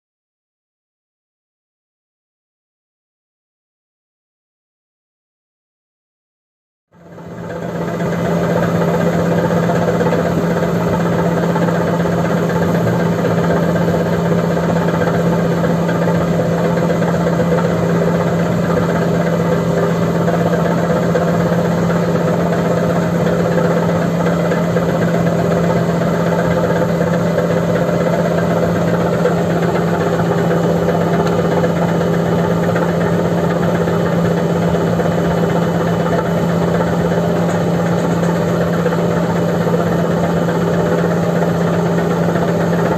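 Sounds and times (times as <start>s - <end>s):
diesel engine running: 7.0s - 42.9s.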